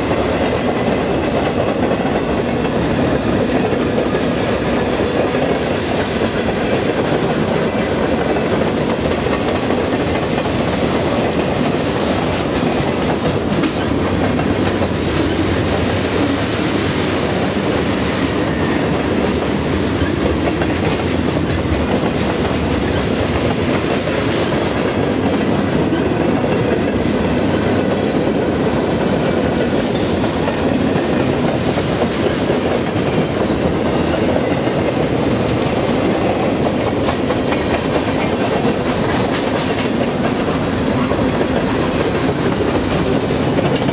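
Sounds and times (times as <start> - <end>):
train wheels rumbling and rattling: 0.0 - 43.9
wheels clacking over rail joints: 0.1 - 43.9.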